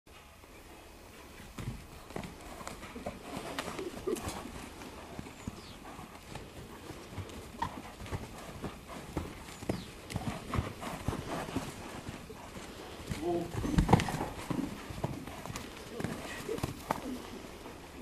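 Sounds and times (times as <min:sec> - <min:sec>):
hooves thudding on dirt: 0:00.1 - 0:18.0.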